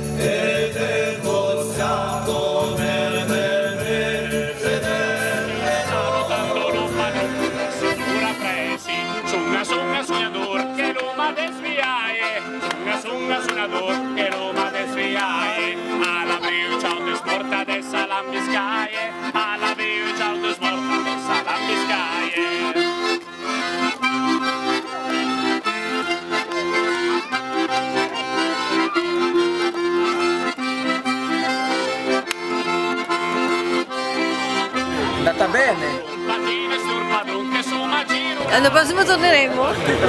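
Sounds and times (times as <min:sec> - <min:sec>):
accordion playing a folk tune: 0:00.0 - 0:40.0.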